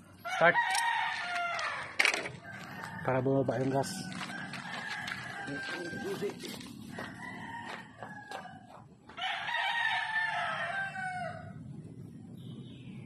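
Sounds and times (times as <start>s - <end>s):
rooster crowing: 0.2s - 11.6s.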